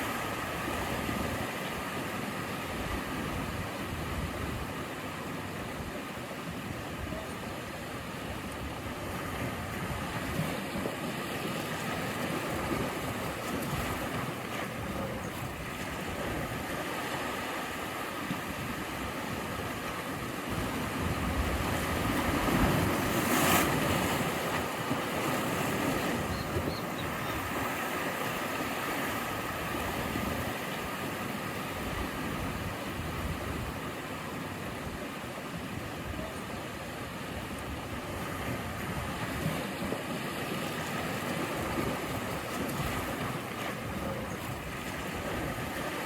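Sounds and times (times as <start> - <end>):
ocean waves breaking on shore: 0.0 - 46.0
wind on microphone: 0.0 - 46.0.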